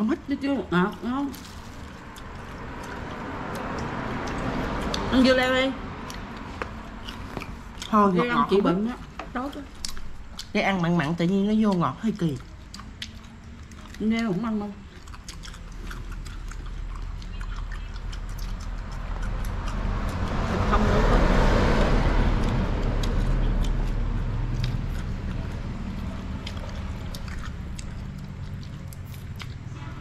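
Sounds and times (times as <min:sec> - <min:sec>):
vehicle passing by: 0:00.0 - 0:11.6, 0:12.4 - 0:30.0
steady low hum: 0:00.0 - 0:30.0.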